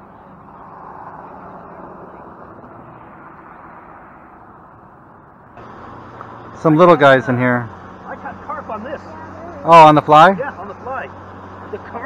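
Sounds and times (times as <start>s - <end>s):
car passing: 0.0s - 12.0s
road traffic hiss: 0.0s - 12.0s.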